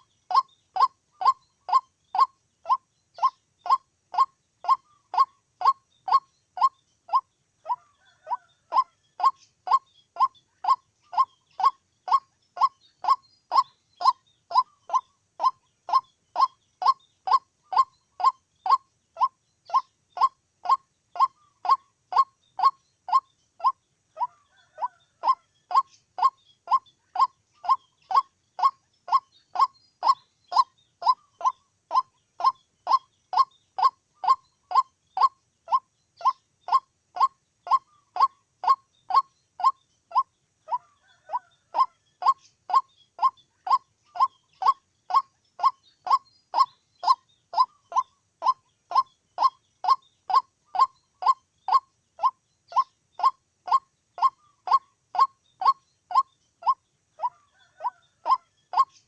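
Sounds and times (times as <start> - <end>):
waterhen calling kook notes: 0.0 - 59.0.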